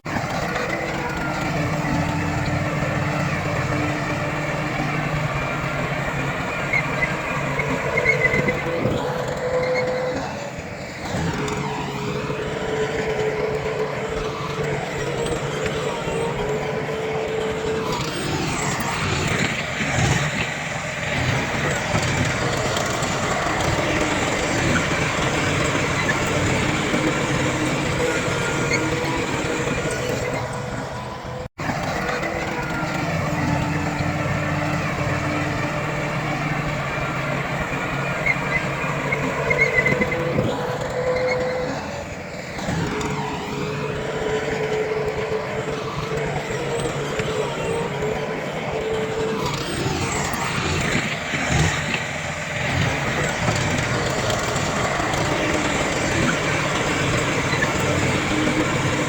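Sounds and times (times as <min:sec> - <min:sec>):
heavy diesel machinery working: 0:00.0 - 0:59.0.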